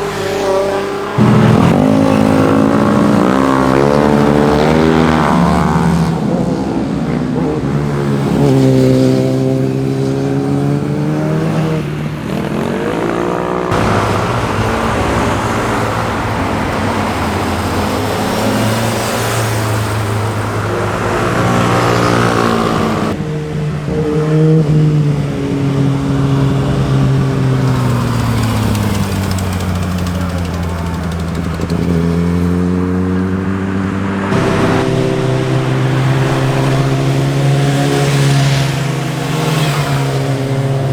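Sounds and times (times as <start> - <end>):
motorcycles accelerating and passing: 0.0 - 40.9.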